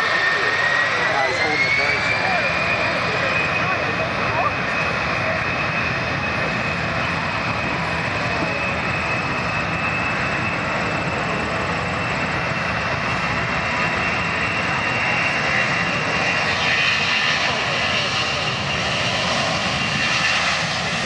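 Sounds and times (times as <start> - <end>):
jet engines at high power: 0.0 - 21.0.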